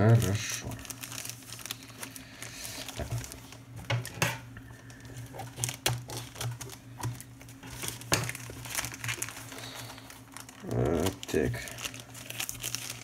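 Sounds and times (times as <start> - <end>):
plastic mailer bag crinkling: 0.0 - 13.0.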